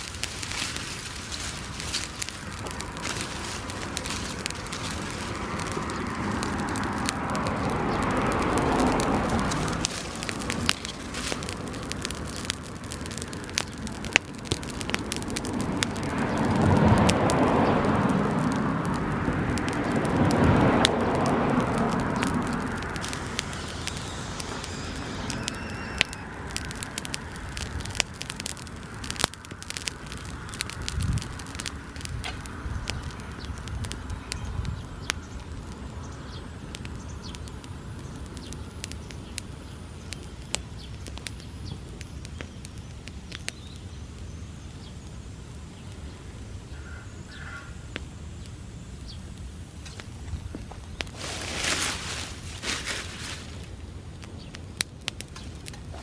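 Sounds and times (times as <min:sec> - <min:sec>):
grass fire rushing and crackling: 0:00.0 - 0:56.0.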